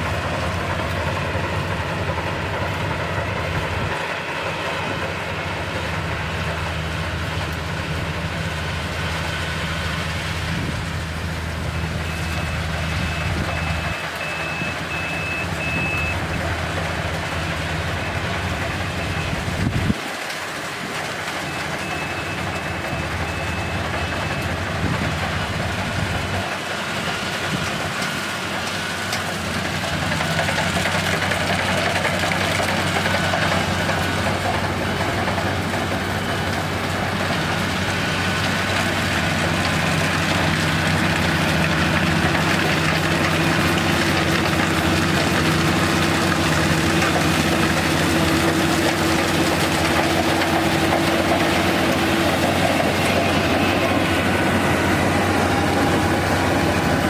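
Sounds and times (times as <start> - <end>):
combine harvester drone: 0.0 - 57.0.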